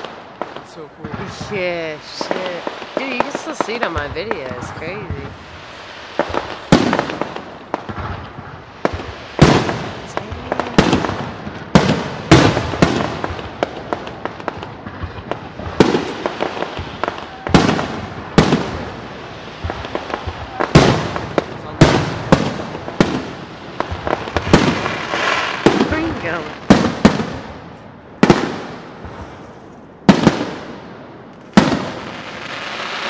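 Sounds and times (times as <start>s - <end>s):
fireworks bangs: 0.0s - 33.0s
fireworks pops and crackles: 0.0s - 33.0s.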